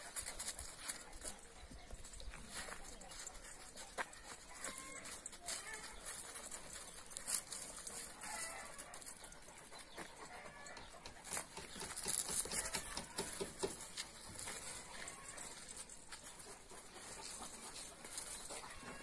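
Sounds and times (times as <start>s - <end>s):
footsteps on paving stones: 0.0s - 19.0s
metal chain leads clinking: 0.0s - 19.0s.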